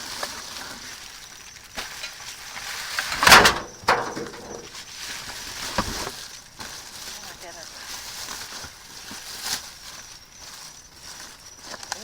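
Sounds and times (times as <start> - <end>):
rummaging through trash: 0.0 - 12.0.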